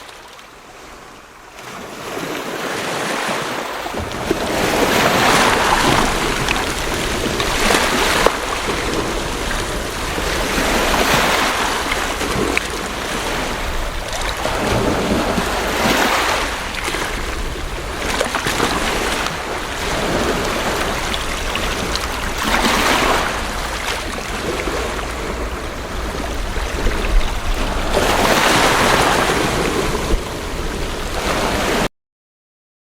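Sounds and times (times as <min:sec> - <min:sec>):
ocean waves washing in: 0:00.0 - 0:31.9
wind rumble on microphone: 0:03.9 - 0:31.9.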